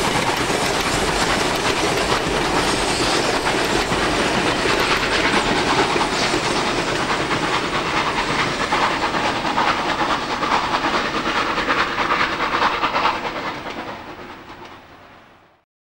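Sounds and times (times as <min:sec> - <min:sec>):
train wheels clacking over rail joints: 0:00.0 - 0:15.0
steam locomotive hiss: 0:00.0 - 0:15.5.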